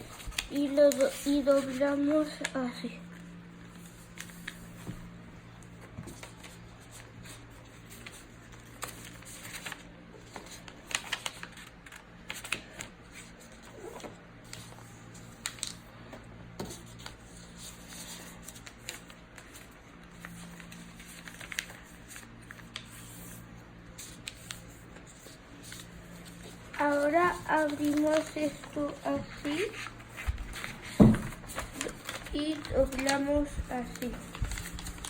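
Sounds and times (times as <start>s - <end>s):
paper rustling and crinkling: 0.0s - 35.0s.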